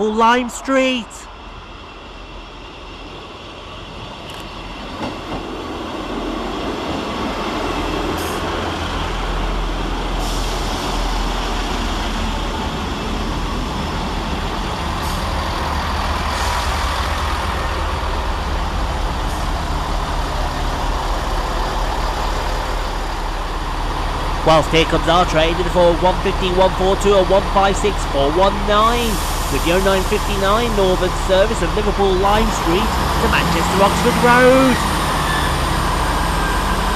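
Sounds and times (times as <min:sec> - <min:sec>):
diesel train arriving: 0:00.0 - 0:36.9.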